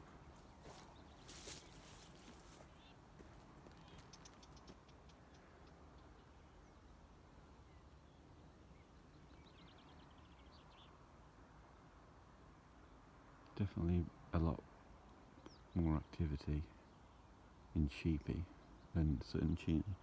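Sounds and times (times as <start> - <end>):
faint distant birdsong: 0.0 - 20.0.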